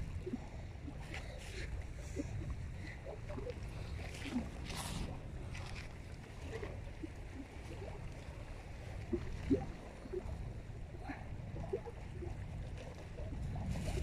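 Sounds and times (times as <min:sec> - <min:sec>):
low steady rumble: 0:00.0 - 0:14.0
water lapping and gurgling: 0:00.0 - 0:14.0.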